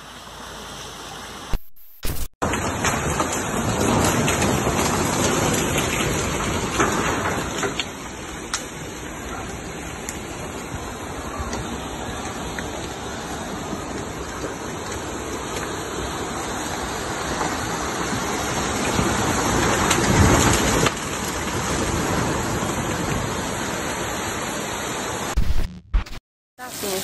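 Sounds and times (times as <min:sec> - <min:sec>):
heavy rain falling: 0:02.4 - 0:25.6.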